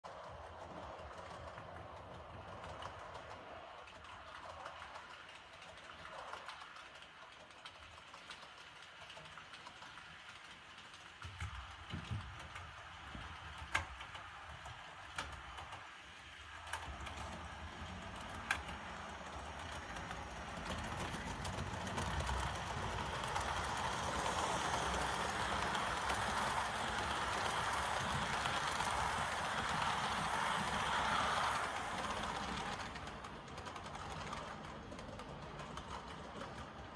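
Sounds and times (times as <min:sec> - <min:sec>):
model train running on track: 0:00.0 - 0:36.9.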